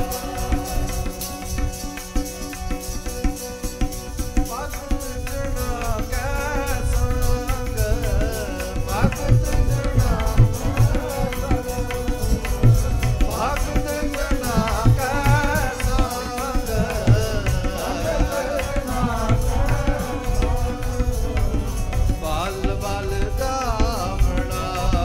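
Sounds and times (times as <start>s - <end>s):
person singing ornamented melody: 0.0s - 3.4s, 4.4s - 25.0s
steady held drone: 0.0s - 25.0s
tabla strokes: 0.0s - 25.0s.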